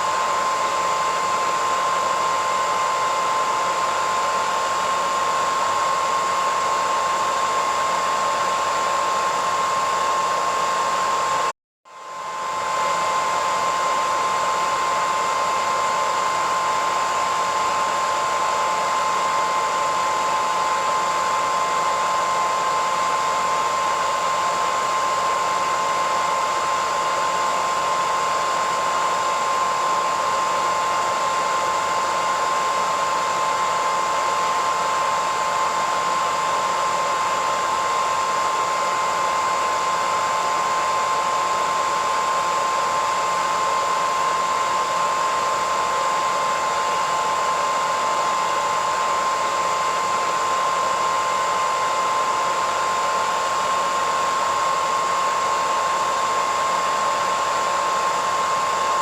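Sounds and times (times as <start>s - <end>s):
hairdryer running: 0.0s - 59.0s.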